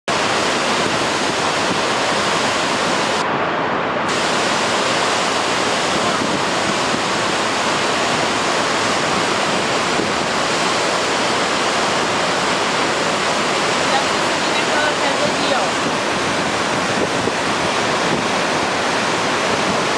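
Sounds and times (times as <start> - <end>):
waterfall rushing: 0.1 - 19.9.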